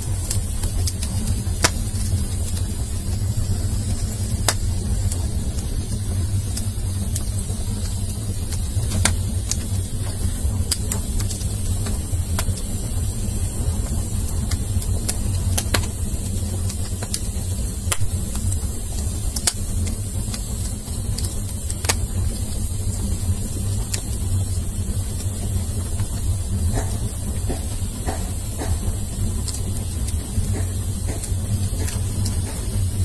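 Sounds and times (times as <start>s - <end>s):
wood fire rumbling and crackling: 0.0s - 33.0s.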